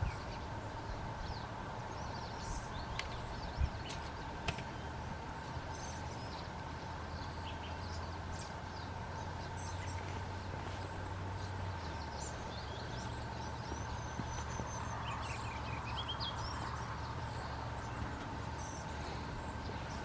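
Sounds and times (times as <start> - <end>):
low background rumble: 0.0 - 20.0
small songbirds chirping: 0.0 - 20.0.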